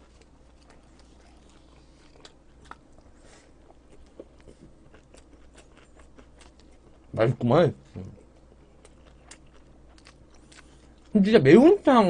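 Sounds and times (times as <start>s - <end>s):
person chewing food: 0.0s - 7.1s, 8.2s - 11.2s.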